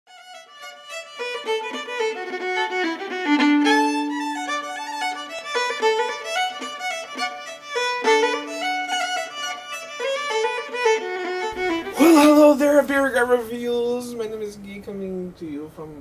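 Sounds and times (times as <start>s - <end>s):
fiddle playing a reel: 0.1s - 13.7s.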